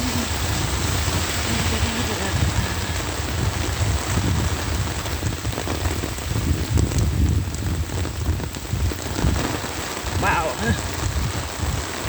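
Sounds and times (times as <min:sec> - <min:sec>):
heavy rain on an umbrella: 0:00.0 - 0:12.0.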